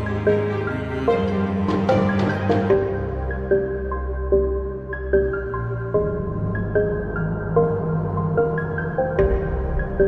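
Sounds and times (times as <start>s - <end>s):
soft background music with bass: 0.0s - 10.0s.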